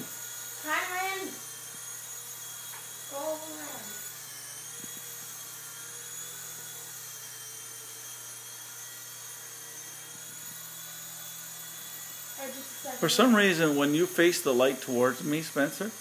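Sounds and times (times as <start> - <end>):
toy helicopter rotors whining: 0.0 - 16.0.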